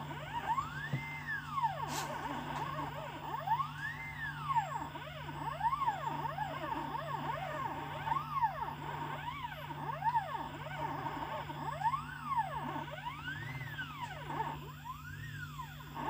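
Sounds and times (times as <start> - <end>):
steady low hum: 0.0 - 16.0
stepper motors whining in sweeps: 0.0 - 16.0.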